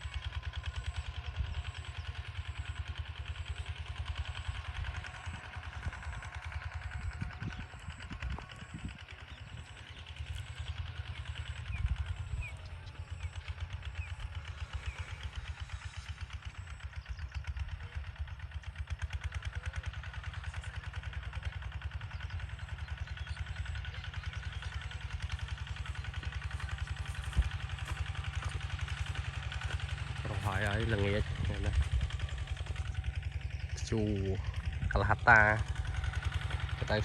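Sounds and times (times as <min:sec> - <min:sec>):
diesel engine putting: 0:00.0 - 0:37.0.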